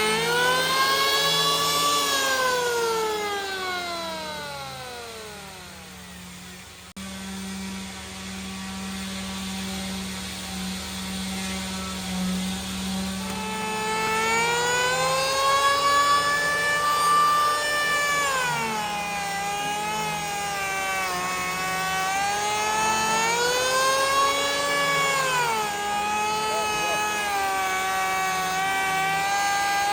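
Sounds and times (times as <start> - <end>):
power tool motor whining: 0.0 - 29.9
steady low hum: 0.0 - 29.9.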